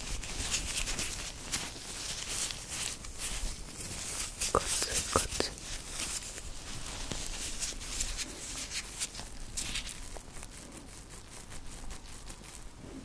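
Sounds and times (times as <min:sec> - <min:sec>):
rubber gloves rubbing and squeaking: 0:00.0 - 0:13.0.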